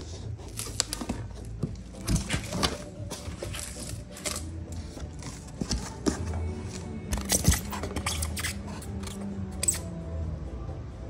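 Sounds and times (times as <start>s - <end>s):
cardboard box rustling and scraping: 0.0s - 9.0s.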